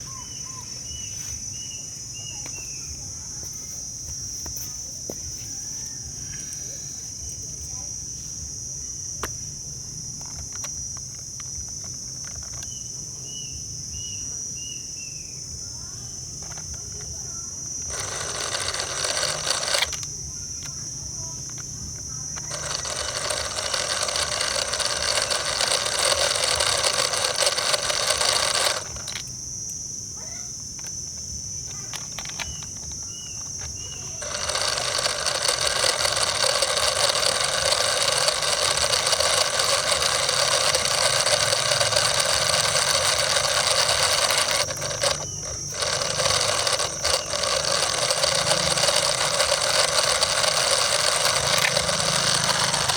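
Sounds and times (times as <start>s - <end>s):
small motor whining: 0.0s - 8.6s, 10.2s - 12.9s, 16.3s - 52.9s.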